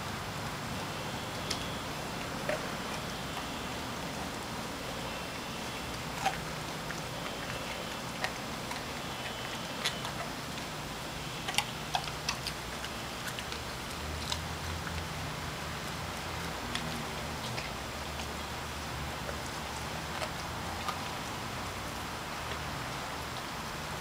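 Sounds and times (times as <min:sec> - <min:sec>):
dog chewing fish: 0:01.3 - 0:23.5.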